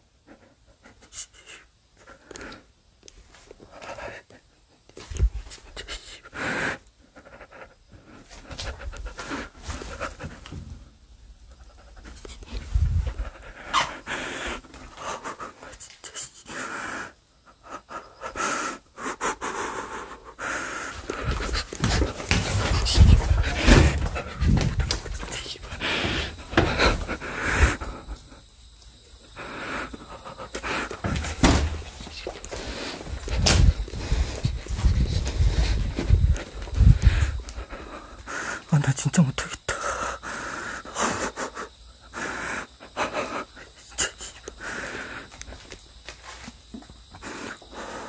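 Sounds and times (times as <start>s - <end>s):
heavy panting breaths: 0.0s - 48.0s.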